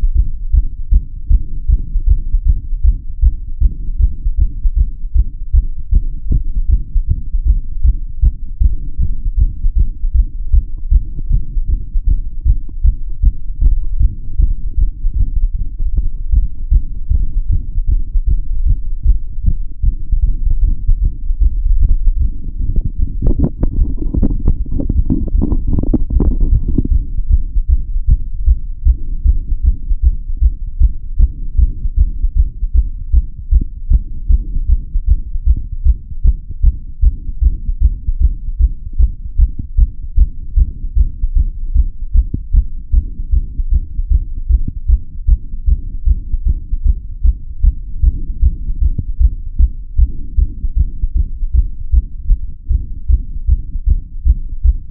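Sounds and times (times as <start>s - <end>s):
heartbeat through stethoscope: 0.0s - 54.9s.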